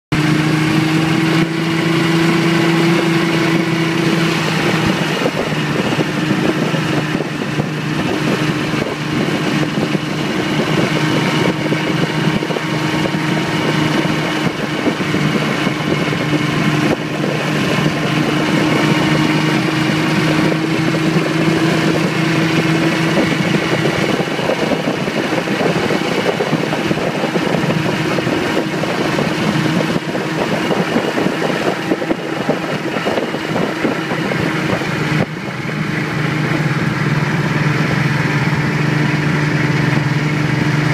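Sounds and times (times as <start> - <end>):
rushing noise of travel: 0.1 - 40.9
snowmobile engine running: 0.1 - 40.9.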